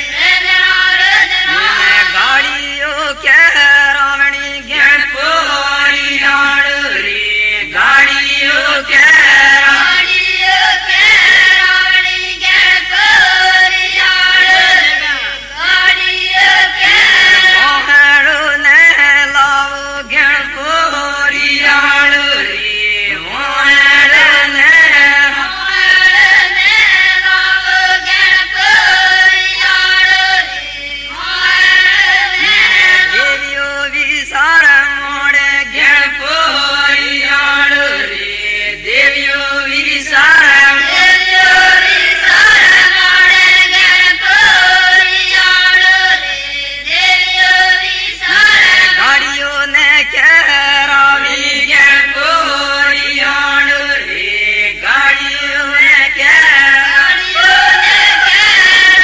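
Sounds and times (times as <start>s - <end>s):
group singing in chant-like style: 0.0s - 59.0s.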